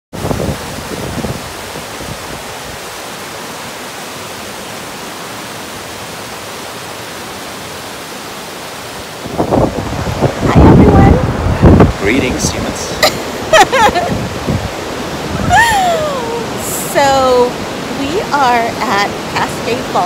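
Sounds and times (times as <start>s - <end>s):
creek rushing over rocks: 0.1s - 20.0s.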